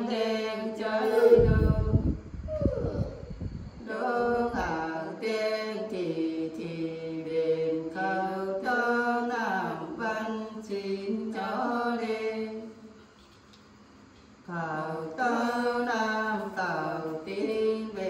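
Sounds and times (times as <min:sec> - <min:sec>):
woman singing unaccompanied: 0:00.0 - 0:03.1, 0:03.8 - 0:12.8, 0:14.4 - 0:18.0.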